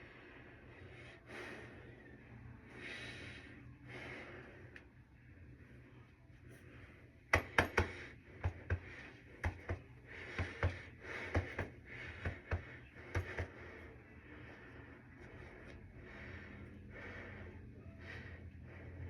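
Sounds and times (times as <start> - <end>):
heavy breathing: 0.0 - 19.0.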